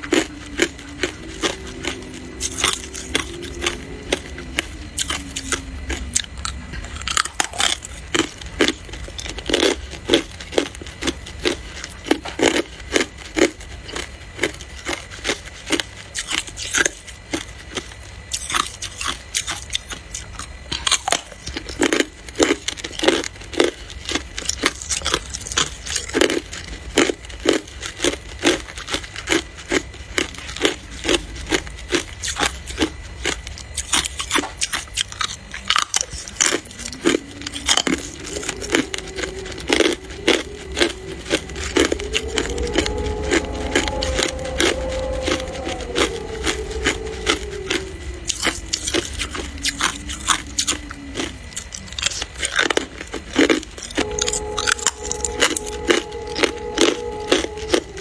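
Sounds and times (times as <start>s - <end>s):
ice crunching between teeth: 0.0s - 57.9s
low humming tone: 0.0s - 58.0s.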